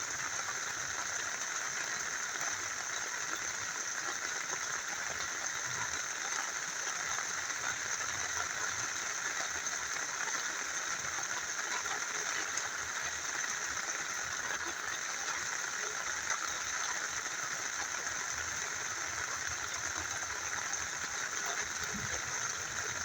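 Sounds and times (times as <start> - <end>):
rain falling: 0.0 - 23.0
small river flowing: 0.0 - 23.0.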